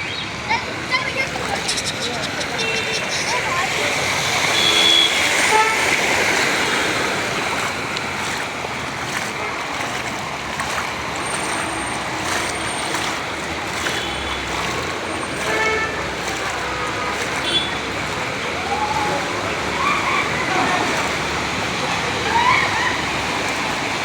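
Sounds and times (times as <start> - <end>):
floodwater rushing: 0.0 - 24.0
heavy rain: 0.1 - 24.0.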